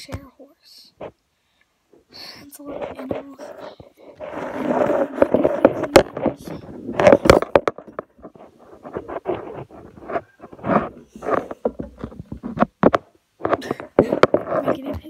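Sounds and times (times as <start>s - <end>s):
fabric rubbing on microphone: 2.5s - 15.0s.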